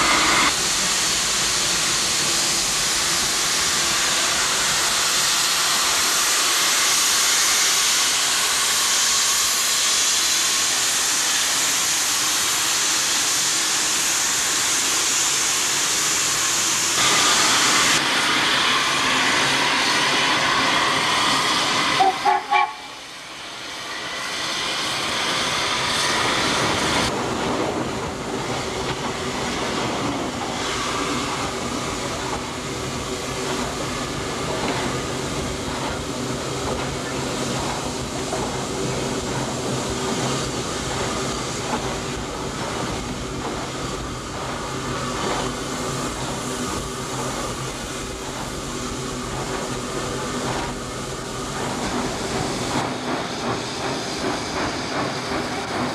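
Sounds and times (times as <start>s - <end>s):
steam locomotive hissing: 0.0s - 55.9s.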